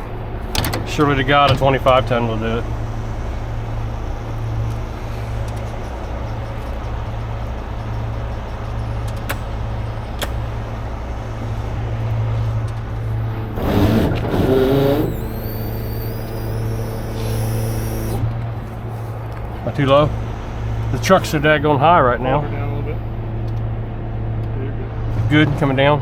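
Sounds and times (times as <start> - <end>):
diesel engine idling: 0.0 - 24.3.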